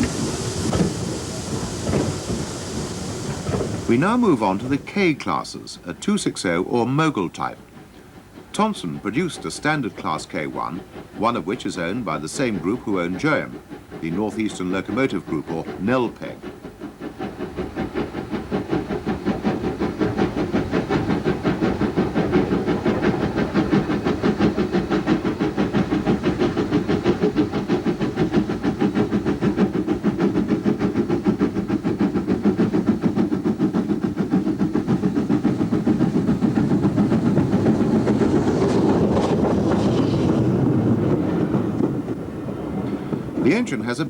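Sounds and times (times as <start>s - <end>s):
steam hiss: 0.0s - 44.0s
steam locomotive exhaust beats: 0.0s - 44.0s.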